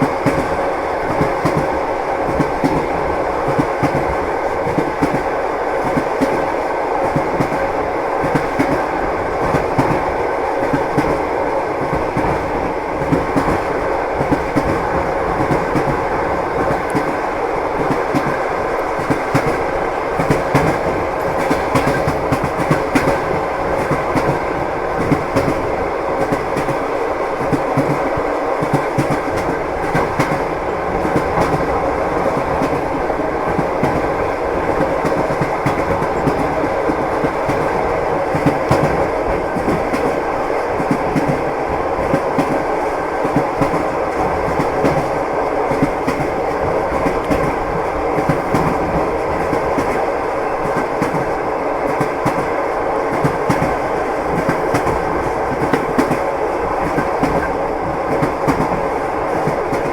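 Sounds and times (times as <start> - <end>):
train wheels clattering over rails: 0.0 - 59.9.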